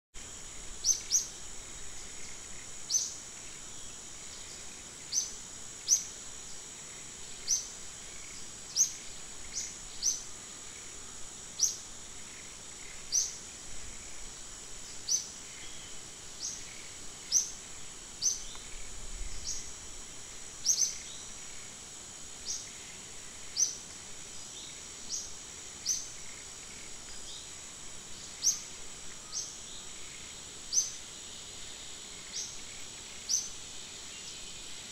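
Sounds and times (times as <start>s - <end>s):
insect drone: 0.2s - 34.9s.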